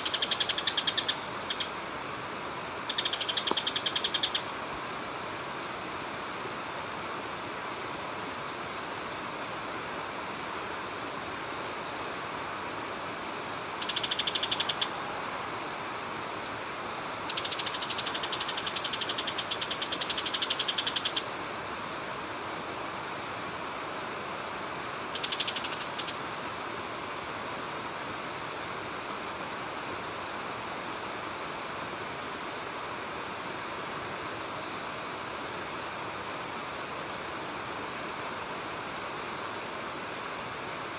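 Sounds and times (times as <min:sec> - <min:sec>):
insects high-pitched pulsing: 0:00.0 - 0:40.9.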